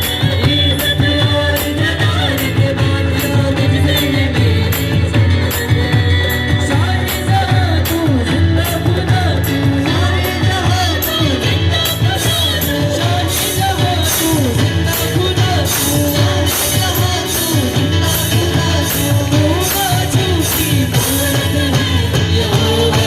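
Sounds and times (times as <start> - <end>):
live worship music: 0.0 - 23.0.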